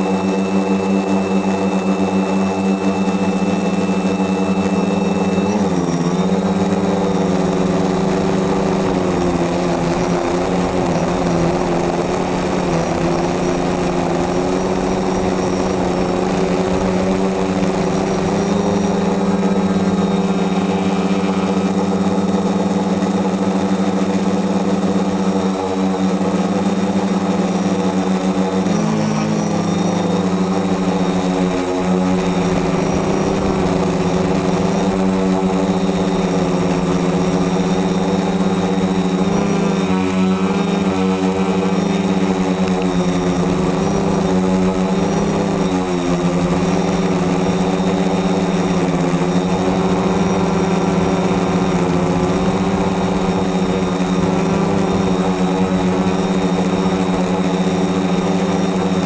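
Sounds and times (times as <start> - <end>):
quadcopter motors buzzing: 0.0 - 59.0
thin high whine: 0.0 - 59.0.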